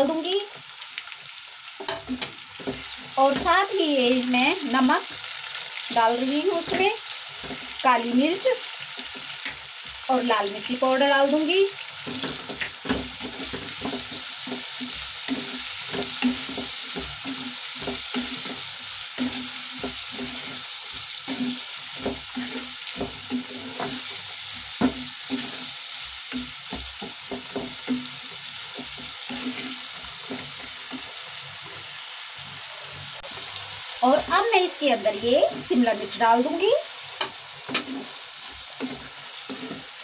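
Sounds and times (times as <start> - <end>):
vegetables sizzling in hot oil: 0.0 - 40.0
spatula scraping and knocking pan: 1.8 - 3.8, 4.5 - 7.8, 8.6 - 10.1, 11.8 - 33.6, 35.0 - 40.0.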